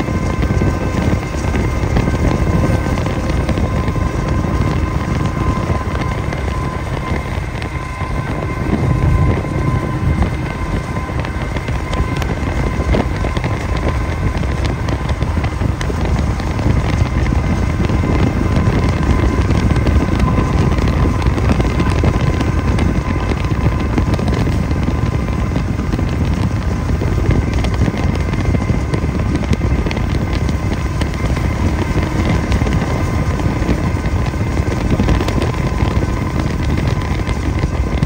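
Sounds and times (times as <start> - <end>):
faint high whining tones: 0.0 - 38.0
vehicle rumble: 0.0 - 38.0
wind noise on microphone: 0.0 - 38.0.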